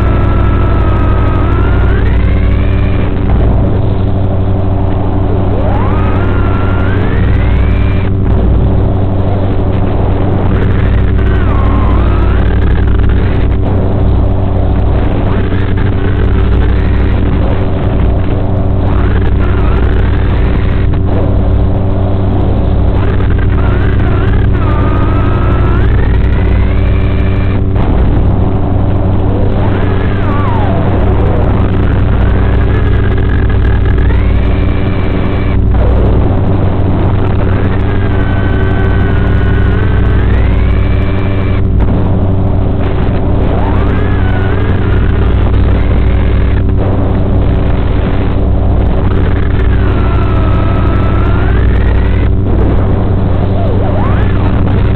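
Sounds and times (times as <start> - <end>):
drone motors whining: 0.0 - 54.9
low hum: 0.0 - 54.9.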